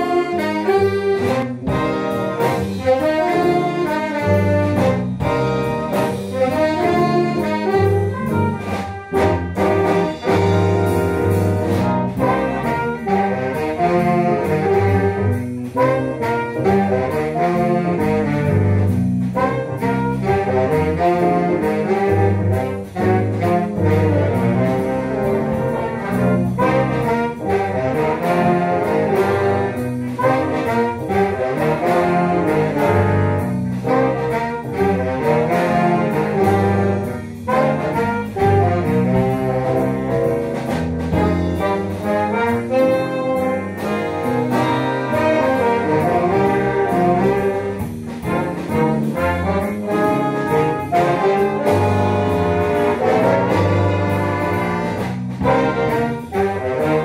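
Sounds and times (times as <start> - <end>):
jazz big band playing: 0.0 - 57.0.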